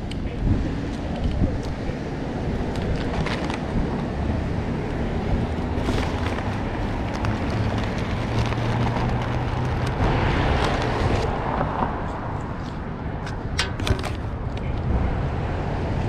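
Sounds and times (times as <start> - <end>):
cars passing: 0.0 - 16.0
wind on microphone: 0.0 - 16.0.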